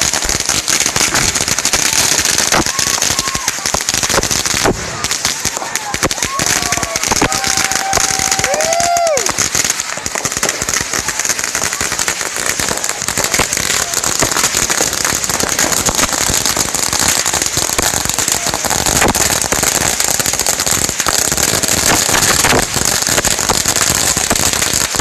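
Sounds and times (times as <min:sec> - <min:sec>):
firecrackers banging and crackling: 0:00.0 - 0:25.0.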